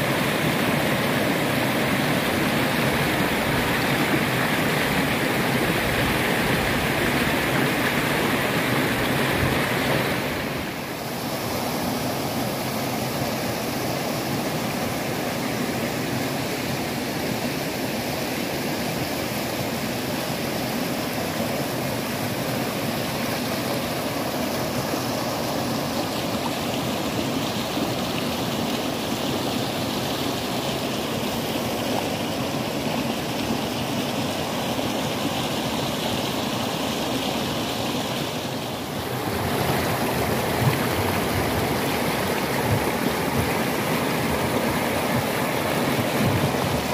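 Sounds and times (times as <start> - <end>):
river rushing over boulders: 0.0 - 46.9.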